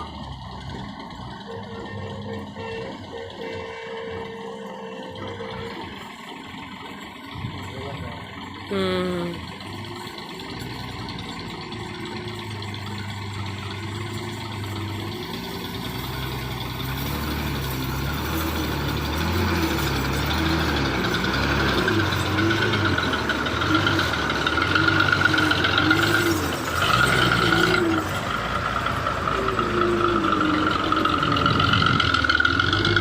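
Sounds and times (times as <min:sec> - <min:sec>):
truck engine under load: 0:00.0 - 0:33.0.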